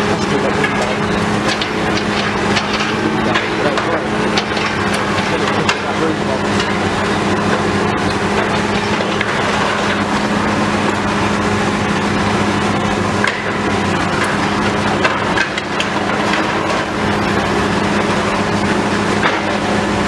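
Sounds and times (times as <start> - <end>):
diesel engine running: 0.0 - 20.0
debris cracking and crunching: 0.2 - 18.6.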